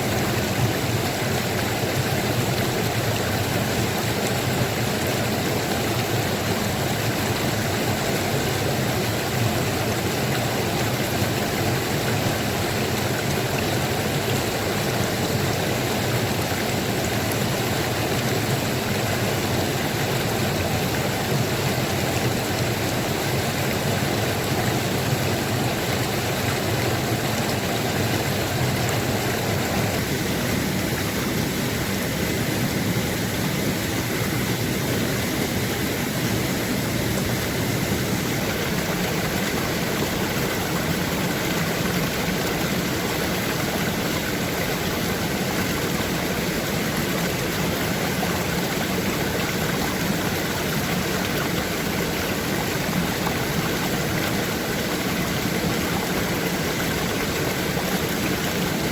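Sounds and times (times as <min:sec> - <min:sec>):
flowing stream water: 0:00.0 - 0:58.9.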